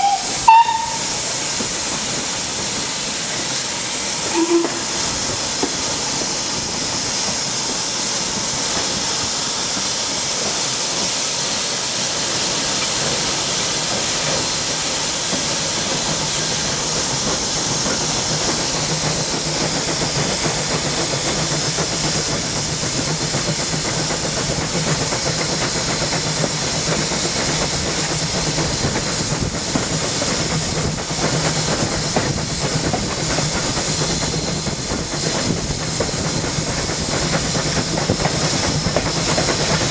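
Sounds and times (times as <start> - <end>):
steam hissing: 0.0 - 39.9.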